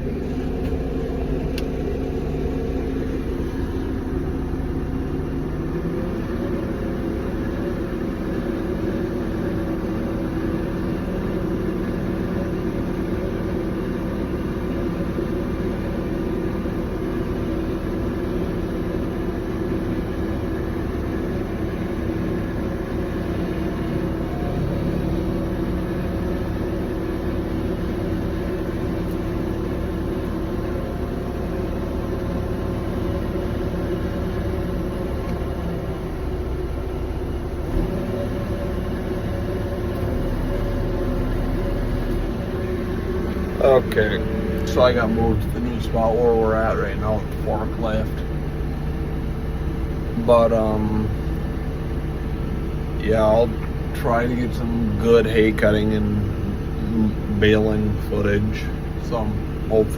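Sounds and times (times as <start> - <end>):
forklift engine running: 0.0 - 59.9.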